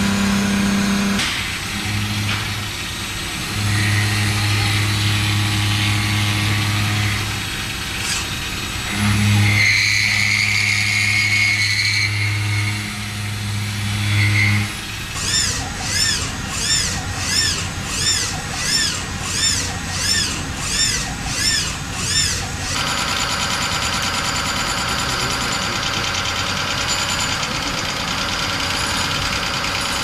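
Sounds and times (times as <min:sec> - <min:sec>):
high cutting whine: 0:00.0 - 0:30.0
low machine hum: 0:00.0 - 0:30.0.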